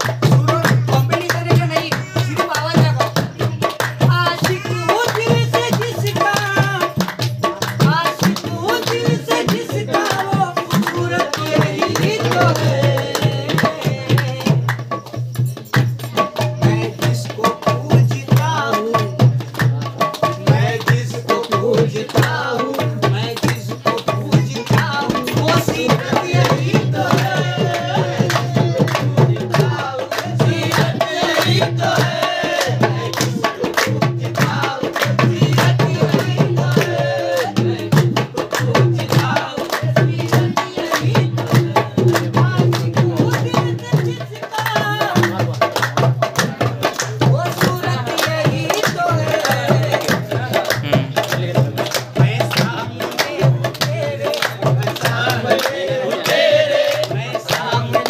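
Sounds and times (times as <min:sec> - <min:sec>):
group clapping along: 0:00.0 - 0:58.0
man singing: 0:00.0 - 0:58.0
tabla and dholak drumming: 0:00.0 - 0:58.0.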